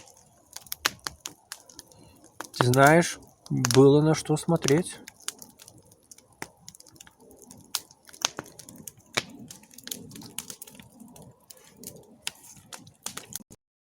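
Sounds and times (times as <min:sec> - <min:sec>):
low rumble of flames: 0:00.0 - 0:13.5
campfire crackling and popping: 0:00.0 - 0:13.6.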